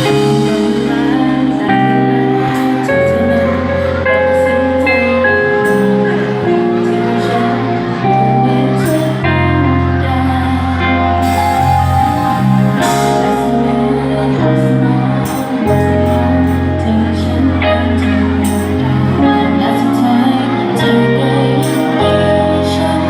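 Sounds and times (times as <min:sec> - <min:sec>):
music with bass and chords: 0:00.0 - 0:23.0
person singing: 0:00.0 - 0:23.0.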